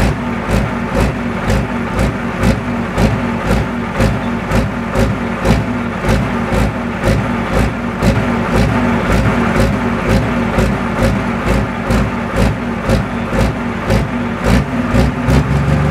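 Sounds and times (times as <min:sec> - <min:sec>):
deep thumping beat: 0:00.0 - 0:14.2.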